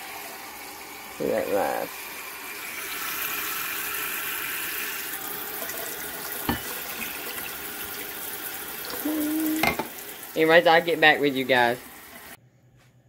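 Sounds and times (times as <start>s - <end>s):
faucet running water into cup: 0.0s - 12.4s.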